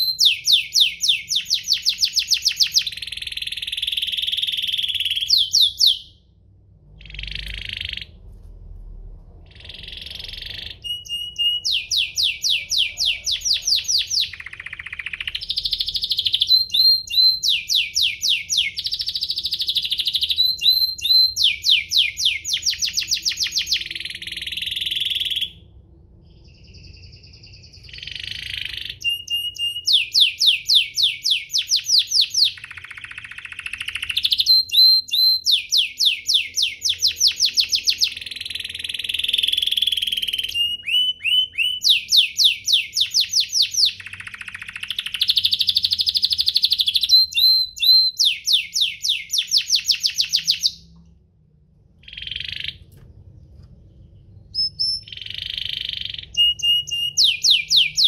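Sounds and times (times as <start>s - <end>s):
canary singing: 0.0s - 8.3s, 9.4s - 51.0s, 52.0s - 58.0s.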